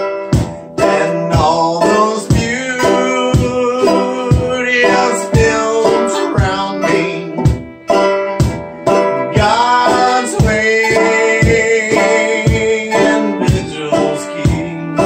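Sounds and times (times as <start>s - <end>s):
bluegrass band playing: 0.0s - 15.0s
cajon thumping: 0.0s - 15.0s.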